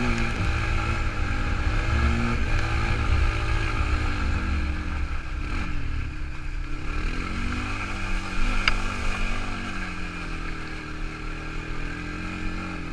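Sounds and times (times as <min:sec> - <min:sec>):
quad bike engine running: 0:00.0 - 0:12.9.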